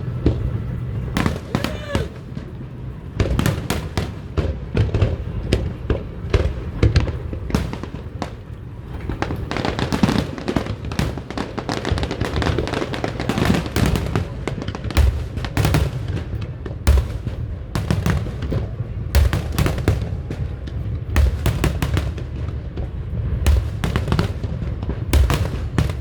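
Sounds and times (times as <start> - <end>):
fireworks bangs and crackles: 0.0 - 26.0
low fireworks booms: 0.0 - 26.0.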